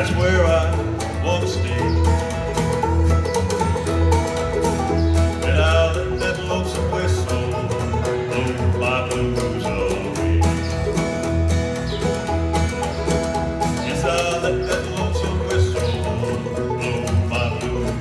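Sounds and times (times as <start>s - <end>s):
banjo: 0.0s - 18.0s
bluegrass band playing: 0.0s - 18.0s
slapped bass: 0.0s - 18.0s.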